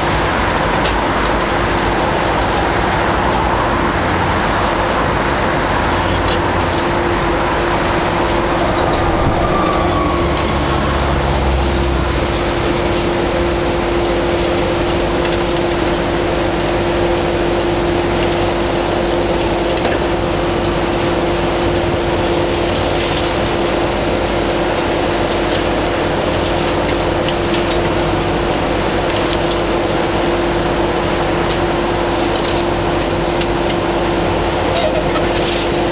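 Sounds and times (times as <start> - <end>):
excavator engine and hydraulics whine: 0.0 - 35.9.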